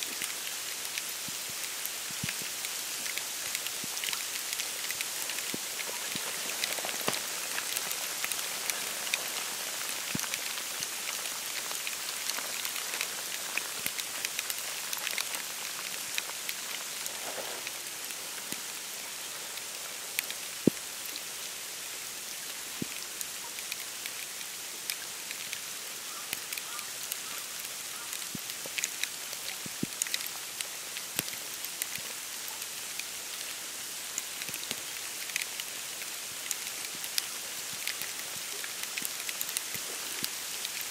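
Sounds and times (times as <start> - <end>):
small scattered ticks: 0.0 - 40.9
snow falling hiss: 0.0 - 40.9.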